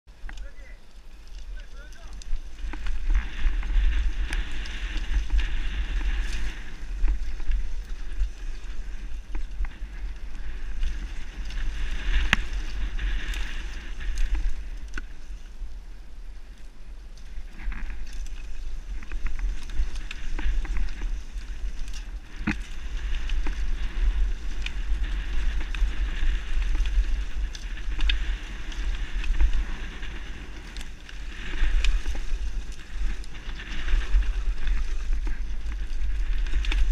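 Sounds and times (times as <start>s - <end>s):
wind rumble on microphone: 0.0s - 36.9s
bike knocking and rattling: 0.1s - 36.9s.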